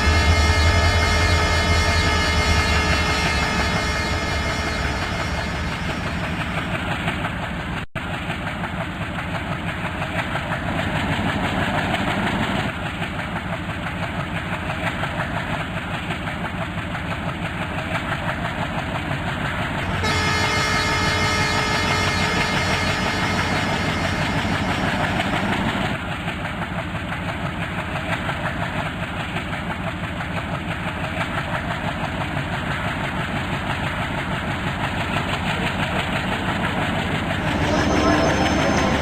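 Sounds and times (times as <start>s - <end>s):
diesel locomotive drone: 0.0s - 39.0s.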